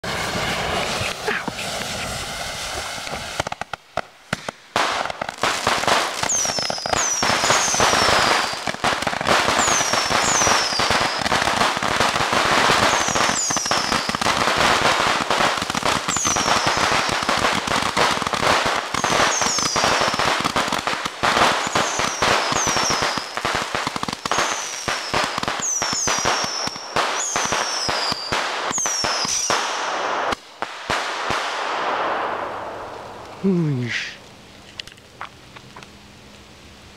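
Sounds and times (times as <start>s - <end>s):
firework hiss: 0.0s - 34.3s
firework fountain crackling: 0.0s - 36.9s.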